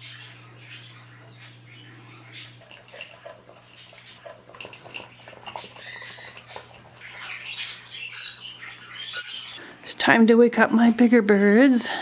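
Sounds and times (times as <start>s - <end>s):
birds chirping and squawking: 0.0s - 9.7s.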